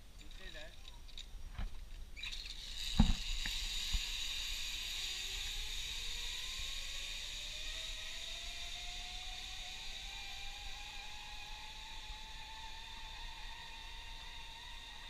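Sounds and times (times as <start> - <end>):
pulley hissing on steel cable: 2.2 - 15.0.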